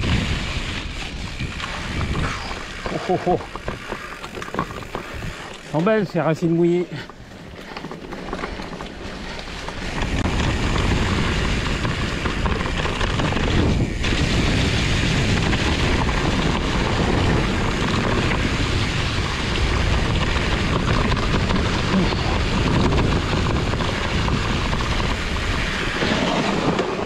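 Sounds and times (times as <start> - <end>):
bike rumbling over wet trail: 0.0 - 27.0
wind buffeting microphone: 0.0 - 27.0.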